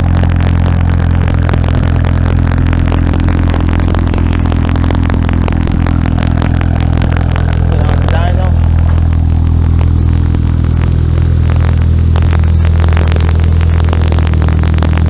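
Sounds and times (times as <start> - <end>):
car engine droning: 0.0 - 15.0
faint ticking: 0.0 - 15.0.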